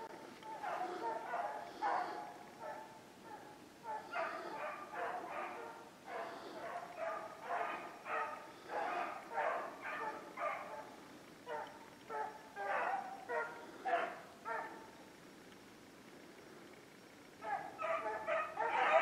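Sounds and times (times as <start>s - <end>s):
dogs baying: 0.0s - 15.0s, 17.4s - 19.0s.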